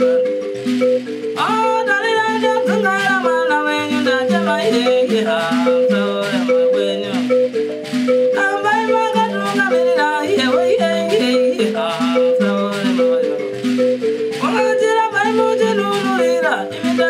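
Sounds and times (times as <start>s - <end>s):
thumb piano plucking: 0.0s - 17.0s
woman singing: 1.4s - 7.5s, 8.4s - 13.5s, 14.4s - 17.0s.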